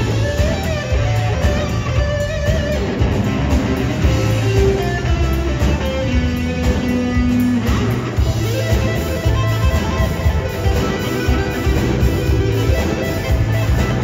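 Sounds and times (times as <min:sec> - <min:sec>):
bass guitar: 0:00.0 - 0:14.0
drums: 0:00.0 - 0:14.0
electric guitar solo: 0:00.0 - 0:14.0.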